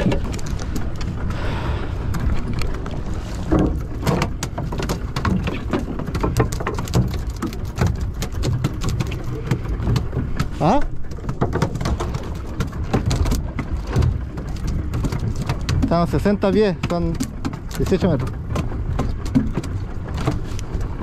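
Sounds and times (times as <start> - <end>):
boat low rumble: 0.0 - 21.0.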